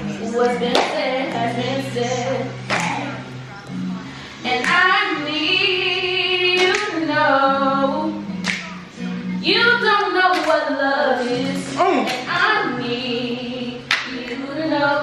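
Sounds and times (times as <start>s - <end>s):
girl singing with vibrato: 0.0s - 3.4s, 4.4s - 8.3s, 9.2s - 15.0s.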